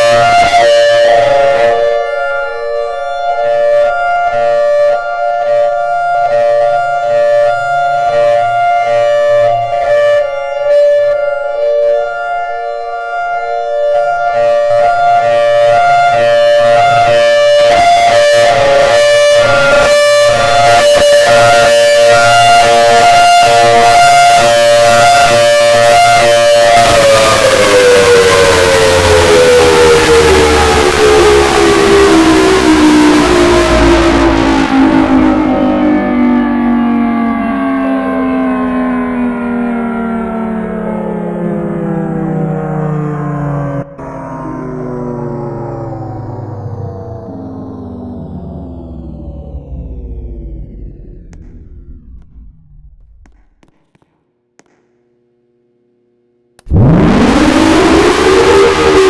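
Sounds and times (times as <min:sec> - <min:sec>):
outdoor warning siren sweeping: 0:00.0 - 0:53.6, 0:56.6 - 0:59.0.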